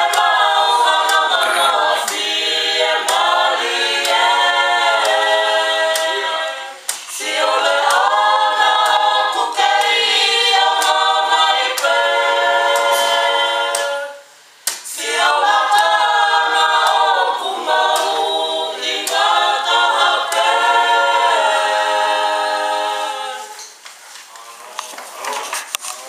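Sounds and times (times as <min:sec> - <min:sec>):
women singing a cappella: 0:00.0 - 0:23.8.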